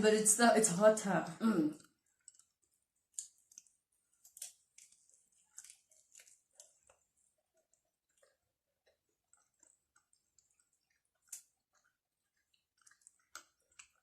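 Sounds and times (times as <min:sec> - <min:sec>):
person chewing wetly: 0:01.7 - 0:14.0.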